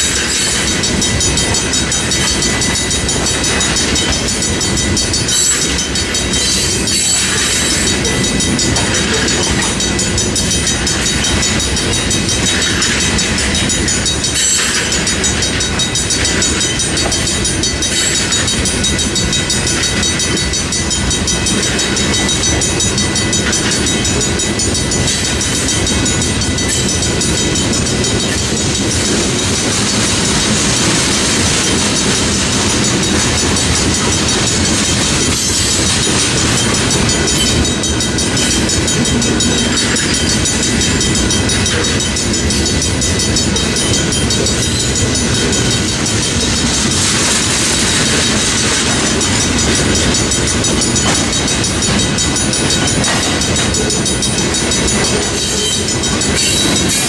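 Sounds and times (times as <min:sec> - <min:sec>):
high-pitched ringing tones: 0:00.0 - 0:57.0
train wheels clattering over rails: 0:00.0 - 0:57.0.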